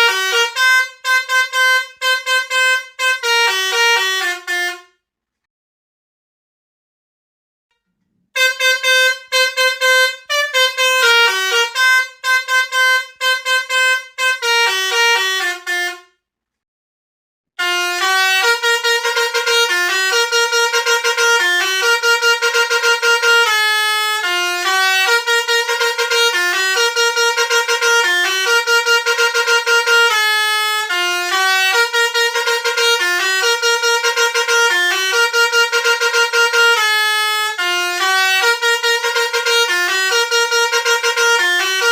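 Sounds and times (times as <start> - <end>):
musical bus horn playing a tune: 0.0 - 5.0, 8.4 - 16.2, 17.6 - 41.9.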